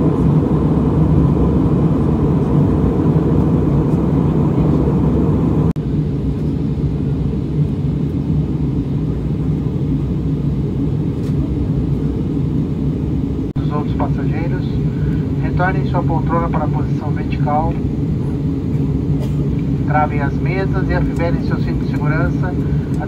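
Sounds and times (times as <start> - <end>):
airliner cabin roar: 0.0 - 23.0.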